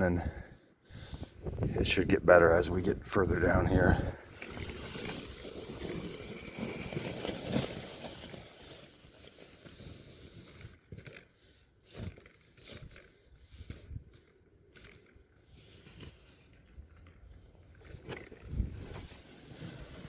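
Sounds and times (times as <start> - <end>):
snow shovel scraping snow: 3.3 - 20.0.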